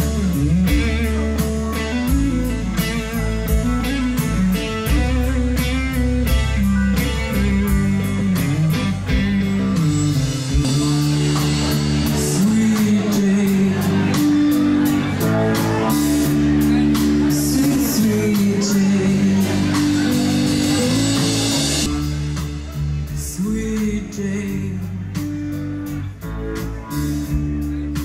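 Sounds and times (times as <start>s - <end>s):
person singing: 0.0s - 25.6s
bass guitar: 0.0s - 28.0s
crowd noise: 0.0s - 28.0s
drums: 0.0s - 28.0s
electric guitar: 0.0s - 28.0s.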